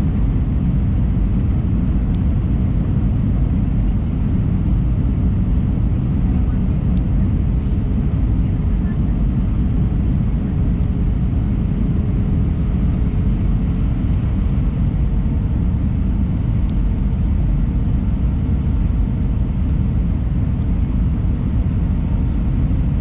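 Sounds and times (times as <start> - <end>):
airliner engine rumble: 0.0 - 23.0.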